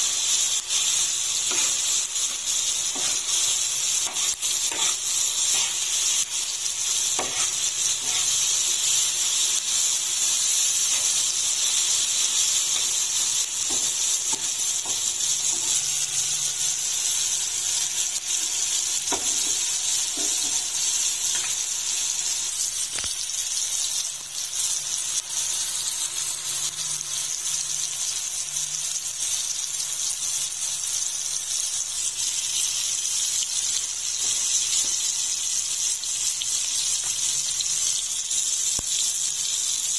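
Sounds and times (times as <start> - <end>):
vegetables sizzling on griddle: 0.0 - 39.9.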